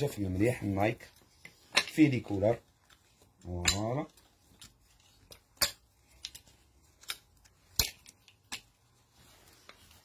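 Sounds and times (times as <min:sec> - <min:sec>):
t-shirts rustling and clicking: 0:00.0 - 0:10.0.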